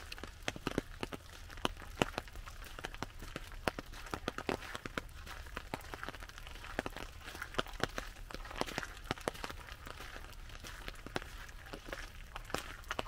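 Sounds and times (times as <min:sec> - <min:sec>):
footsteps crunching on gravel: 0:00.0 - 0:13.0
rain ticking on an umbrella: 0:00.0 - 0:13.0.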